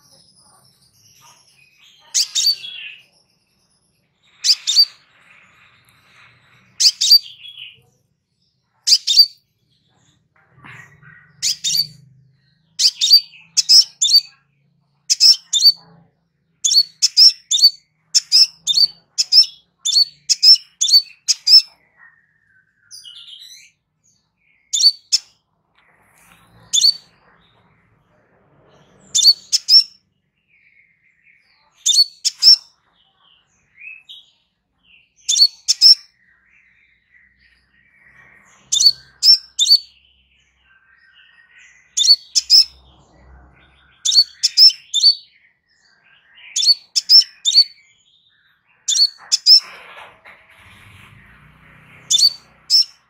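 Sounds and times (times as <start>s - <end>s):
bird chirping: 0.0s - 53.0s.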